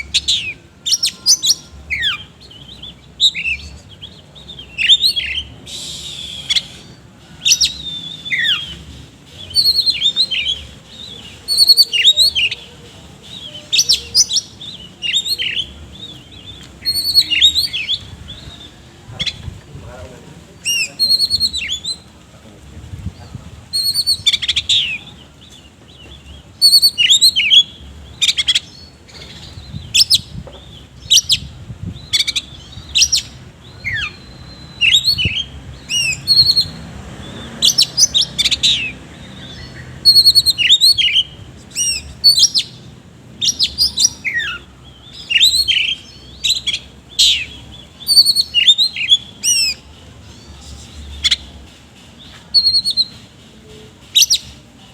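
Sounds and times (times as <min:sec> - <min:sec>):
bird singing loud varied song: 0:00.0 - 0:54.9.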